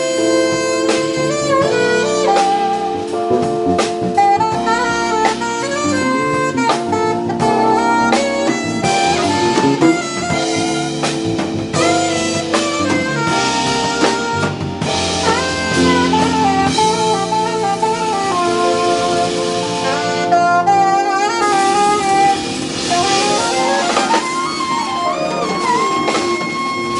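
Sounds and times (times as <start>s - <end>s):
drum kit with cymbals: 0.0s - 26.9s
electric bass: 0.0s - 26.9s
keyboards: 0.0s - 26.9s
saxophone melody: 0.0s - 26.9s.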